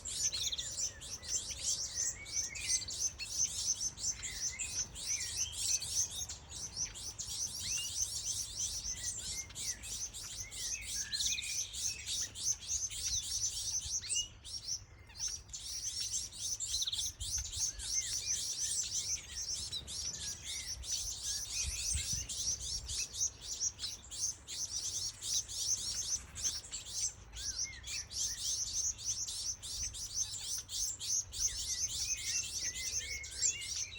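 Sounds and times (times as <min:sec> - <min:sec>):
finch chicks begging calls: 0:00.0 - 0:33.9.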